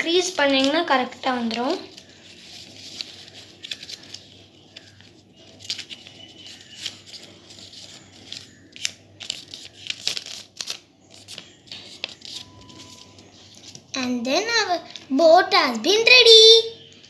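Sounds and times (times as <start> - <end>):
paper rustling and crinkling: 0.2 - 13.9.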